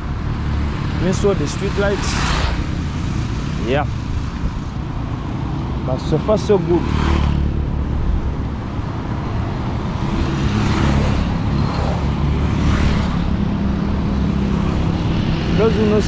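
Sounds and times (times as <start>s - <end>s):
traffic rumble: 0.0s - 16.0s
vehicles passing by: 0.0s - 16.0s.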